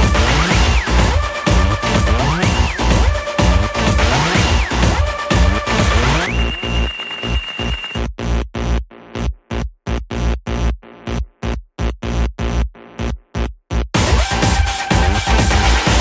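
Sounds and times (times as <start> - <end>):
electronic music with drum-machine beat: 0.0 - 16.0.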